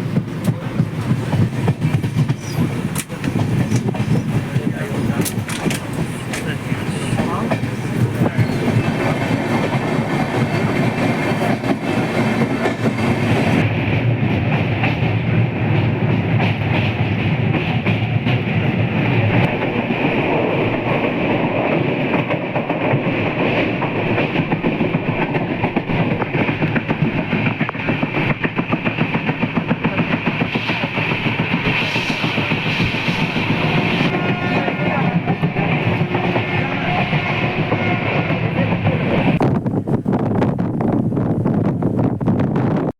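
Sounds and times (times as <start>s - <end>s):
clickety-clack of rails: 0.0s - 42.9s
train wheels rumbling on track: 0.0s - 42.9s.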